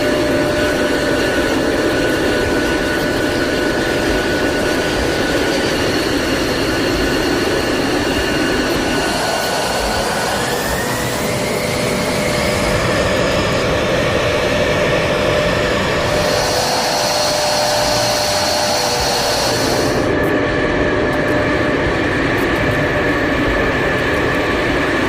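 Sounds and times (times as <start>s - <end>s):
jet engine running: 0.0s - 25.0s.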